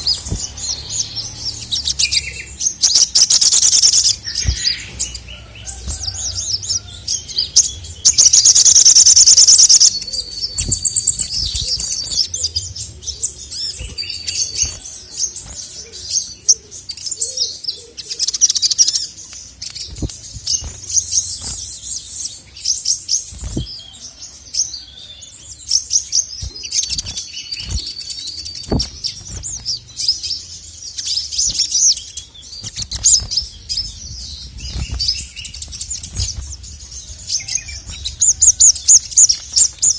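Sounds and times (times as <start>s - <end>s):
songbird high-pitched chirping: 0.0s - 39.9s.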